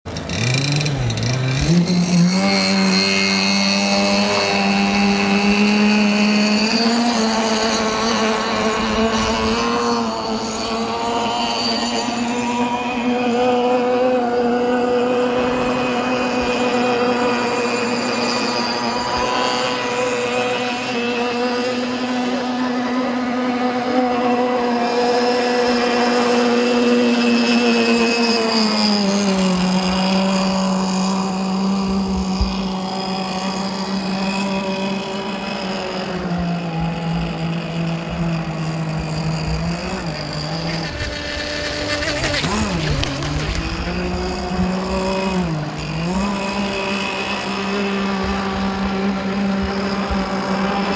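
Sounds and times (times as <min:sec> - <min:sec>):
model boat engine buzzing: 0:00.0 - 0:50.9.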